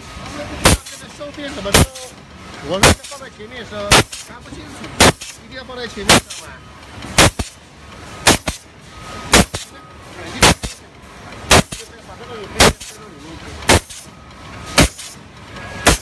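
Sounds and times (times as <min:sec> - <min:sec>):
pneumatic punch banging: 0:00.0 - 0:09.8, 0:10.4 - 0:12.0, 0:12.6 - 0:16.0.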